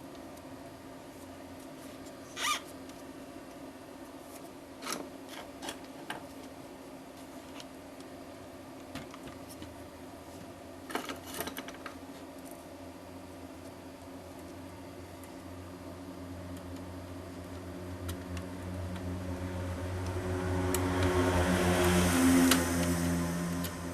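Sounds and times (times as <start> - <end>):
steady hum: 0.0 - 23.9.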